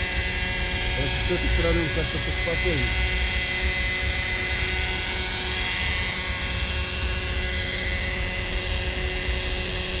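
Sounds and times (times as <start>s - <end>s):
model helicopter whine: 0.0s - 10.0s.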